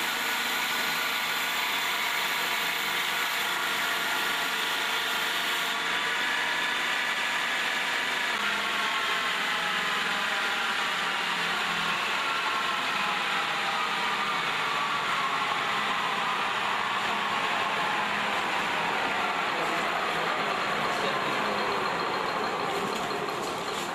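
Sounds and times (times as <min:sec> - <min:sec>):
wood lathe whirring: 0:00.0 - 0:23.9.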